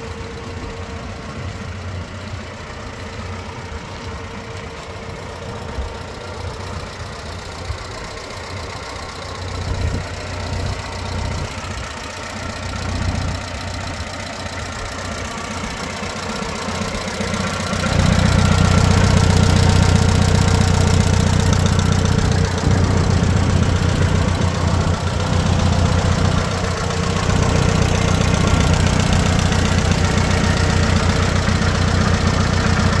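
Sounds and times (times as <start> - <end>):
tractor engine idling: 0.0 - 33.0.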